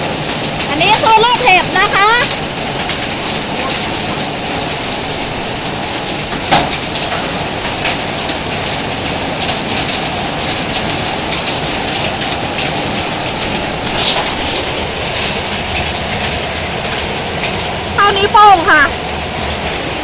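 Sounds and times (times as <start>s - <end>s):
heavy rain and hail roar: 0.0s - 20.0s
sharp hail hits: 0.0s - 20.0s.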